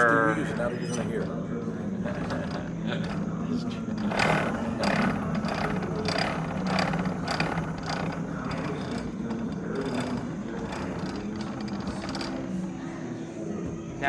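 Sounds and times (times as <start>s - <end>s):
low hall hum: 0.0s - 14.0s
ratchet-like mechanical clacking: 0.5s - 12.8s.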